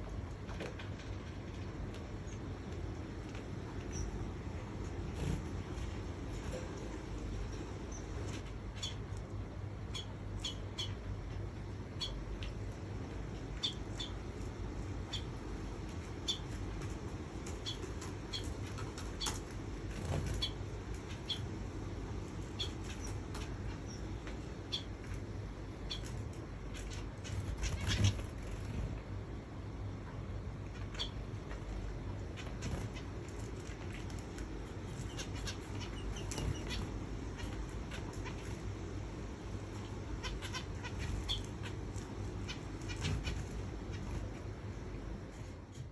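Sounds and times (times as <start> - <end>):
steady low hum: 0.0 - 45.9
finches peeping chirps: 0.1 - 44.8.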